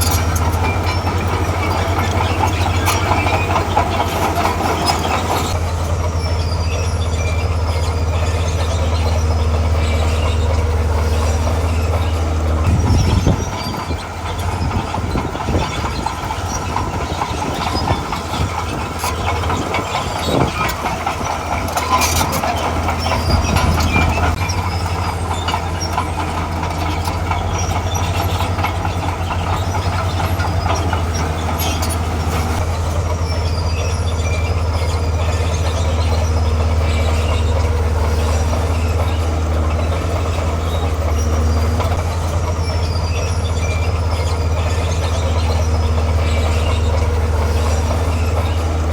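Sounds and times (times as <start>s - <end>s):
diesel engine working: 0.0s - 48.9s.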